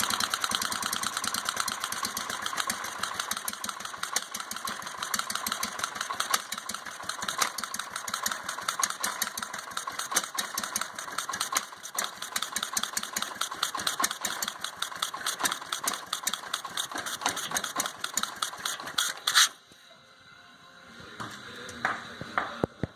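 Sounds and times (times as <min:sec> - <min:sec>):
garden tractor engine running: 0:00.0 - 0:19.6.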